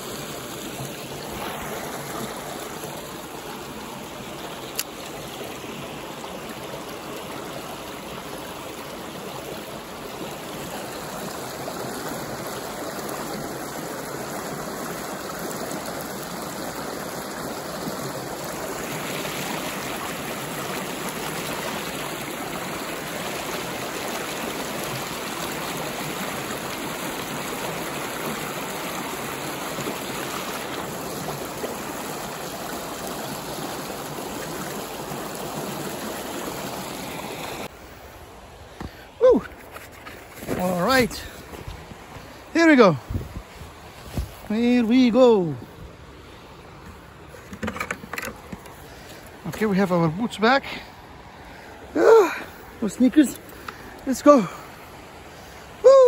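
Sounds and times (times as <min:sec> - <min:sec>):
creek water rushing over rocks: 0:00.0 - 0:56.0.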